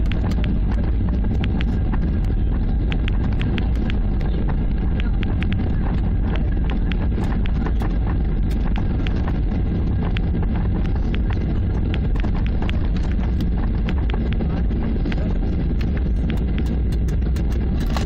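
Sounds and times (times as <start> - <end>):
low rumble of wheels and engines: 0.0 - 18.0.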